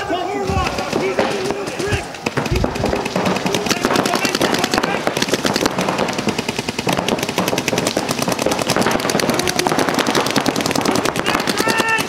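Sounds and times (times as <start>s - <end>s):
paintball markers firing: 0.6s - 12.0s.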